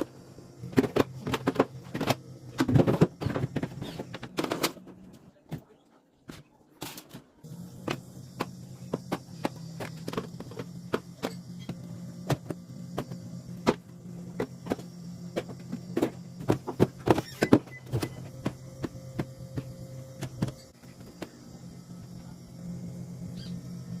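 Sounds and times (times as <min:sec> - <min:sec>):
steady low hum: 0:00.0 - 0:05.4, 0:07.4 - 0:24.0
items clicking and knocking: 0:00.6 - 0:05.7, 0:06.3 - 0:21.4.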